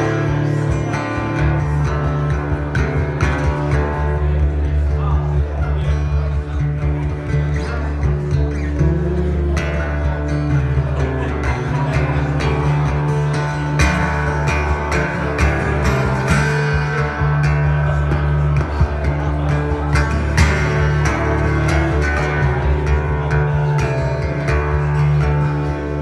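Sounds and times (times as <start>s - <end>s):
acoustic guitar strummed and picked: 0.0s - 26.0s.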